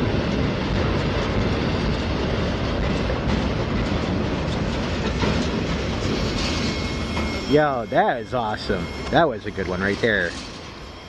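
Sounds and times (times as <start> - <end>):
wheels clicking over rail joints: 0.0 - 10.9
train wheels rumbling on rails: 0.0 - 11.0.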